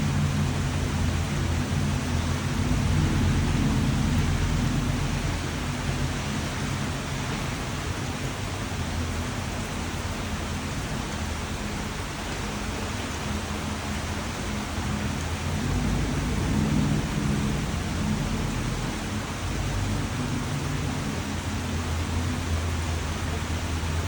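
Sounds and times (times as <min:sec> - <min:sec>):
low rumble of thunder: 0:00.0 - 0:23.3
steady rain falling: 0:00.0 - 0:24.0.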